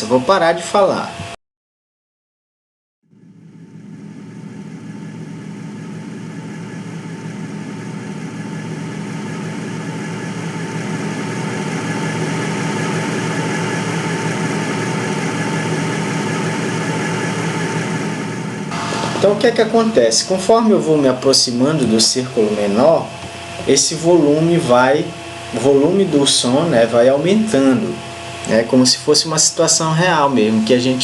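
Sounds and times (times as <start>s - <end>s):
car engine running: 3.2s - 30.8s.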